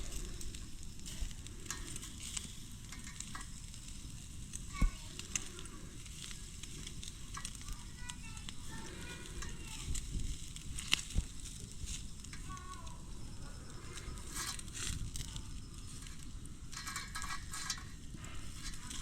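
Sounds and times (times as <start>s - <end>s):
meat sizzling on a grill: 0.0s - 19.0s
wood fire crackling: 0.0s - 19.0s.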